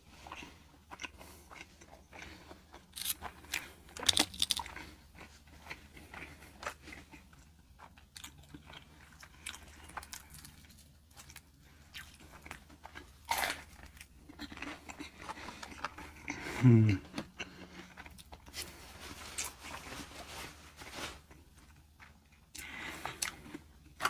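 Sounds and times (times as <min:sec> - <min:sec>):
person chewing crunchy food: 0:00.1 - 0:20.0, 0:21.2 - 0:24.0.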